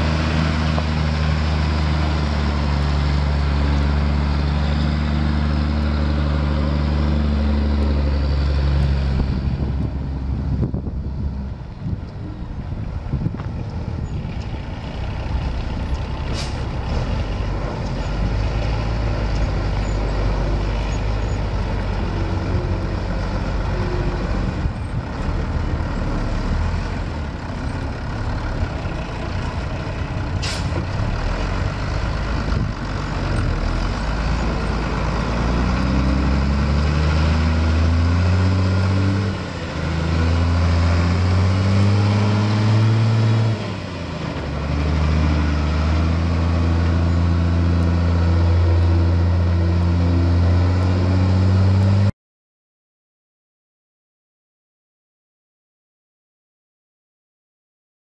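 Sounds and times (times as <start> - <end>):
truck engine revving: 0.0 - 52.1.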